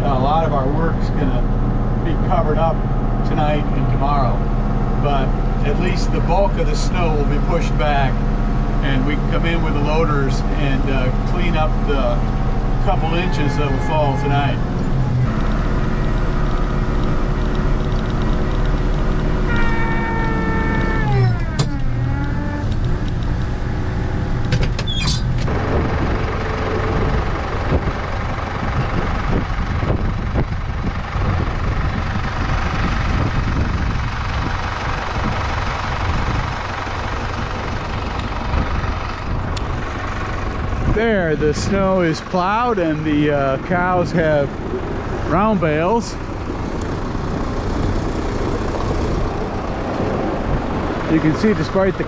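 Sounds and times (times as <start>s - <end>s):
loader engine pushing snow: 0.0s - 52.0s.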